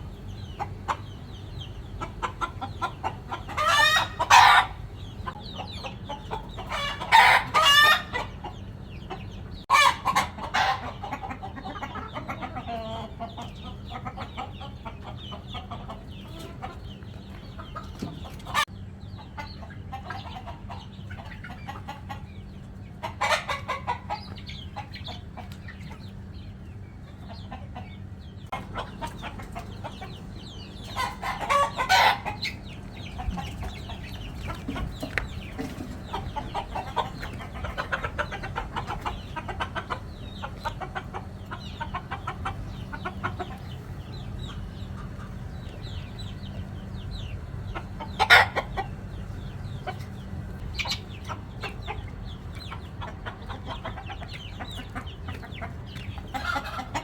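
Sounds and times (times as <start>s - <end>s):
hens and roosters clucking: 0.0s - 57.0s.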